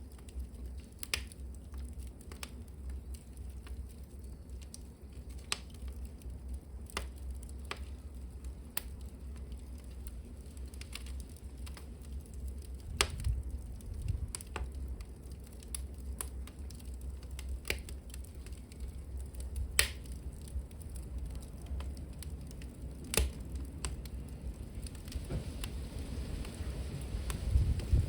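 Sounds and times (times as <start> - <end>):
low rumble of fire: 0.0 - 28.0
sharp pops of burning wood: 0.0 - 28.0
wood fire crackling: 0.0 - 28.0.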